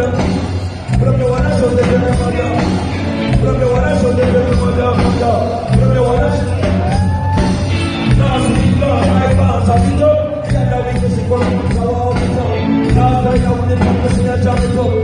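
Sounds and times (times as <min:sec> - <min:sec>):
heavy pulsing bass line: 0:00.0 - 0:15.0
live reggae band: 0:00.0 - 0:15.0.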